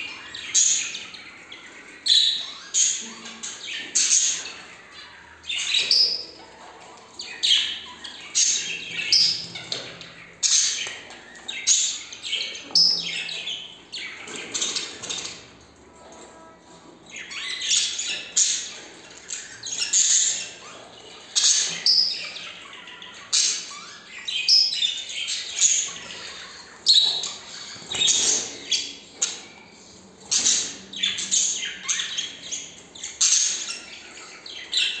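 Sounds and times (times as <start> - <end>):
budgerigars chirping and squawking: 0.0 - 16.2, 16.8 - 35.0.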